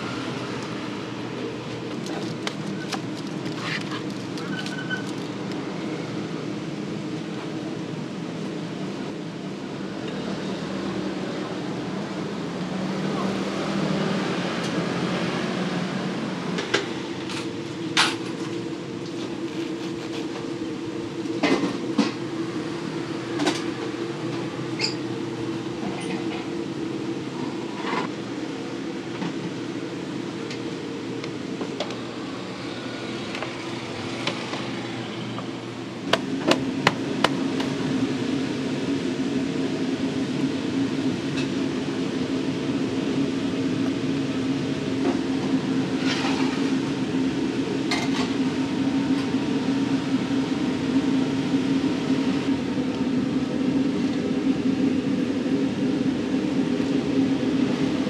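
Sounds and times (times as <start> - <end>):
kitchen equipment hum: 0.0 - 58.0.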